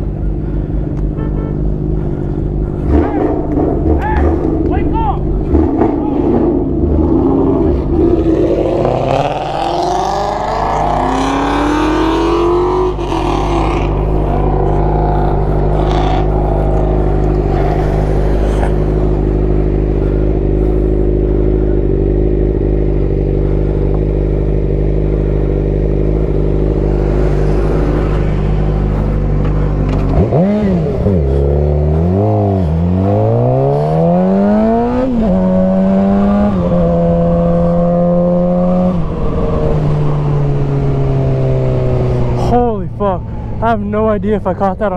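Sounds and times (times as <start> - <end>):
vehicle engine revving: 0.0 - 44.9.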